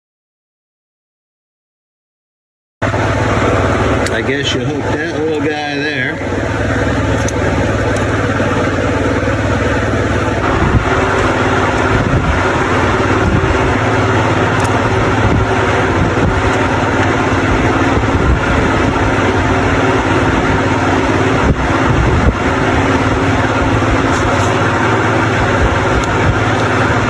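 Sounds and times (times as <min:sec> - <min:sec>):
electric fan humming: 0:02.8 - 0:27.0.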